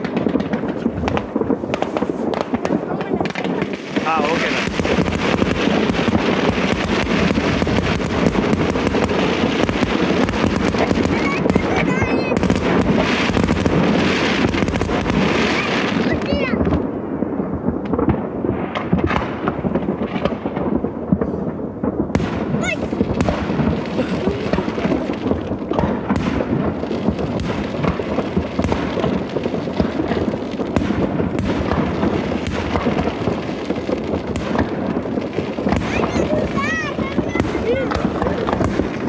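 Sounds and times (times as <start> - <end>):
fireworks booming: 0.0 - 39.0
fireworks crackling: 0.0 - 39.0.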